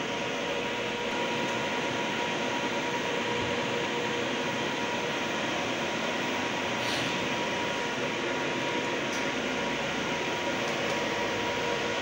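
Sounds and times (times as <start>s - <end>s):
chiller fan and machinery noise: 0.0s - 12.0s.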